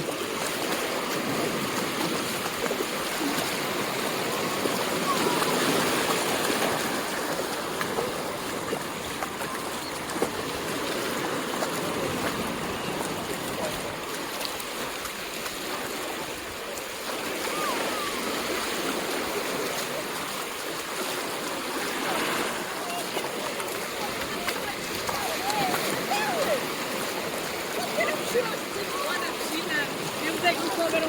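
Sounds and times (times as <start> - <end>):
surf washing onto beach: 0.0 - 31.0
faint voices: 2.9 - 31.0.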